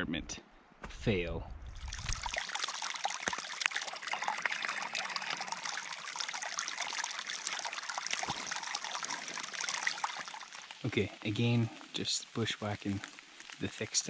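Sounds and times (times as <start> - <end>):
stream trickling over rocks: 1.6 - 14.0.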